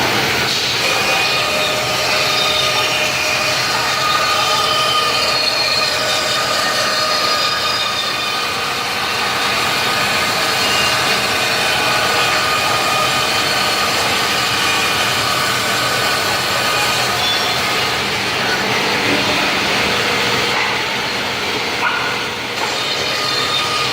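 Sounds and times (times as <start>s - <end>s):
woodworking machine whining: 0.0s - 23.9s.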